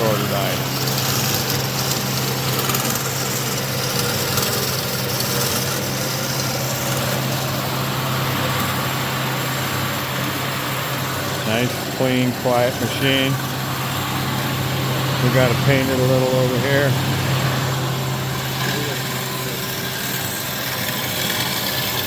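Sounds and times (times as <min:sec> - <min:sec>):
bandsaw humming with hiss: 0:00.0 - 0:22.0.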